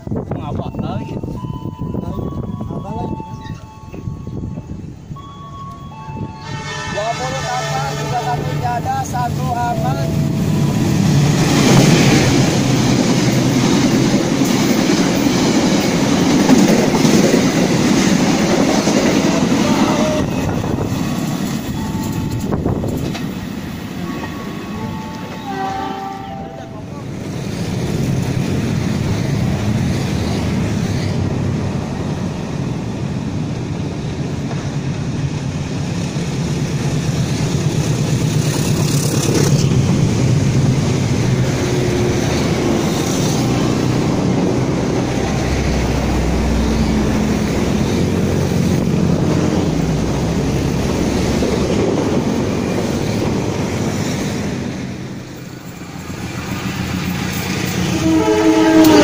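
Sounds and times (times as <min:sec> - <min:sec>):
diesel locomotive engine drone: 0:00.0 - 0:59.0
train coaches rumbling past: 0:00.0 - 0:59.0.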